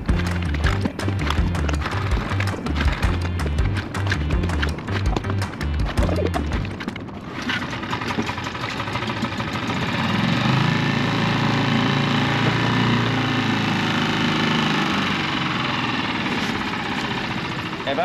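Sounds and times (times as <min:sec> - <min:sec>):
outboard motor idling: 0:00.0 - 0:18.0.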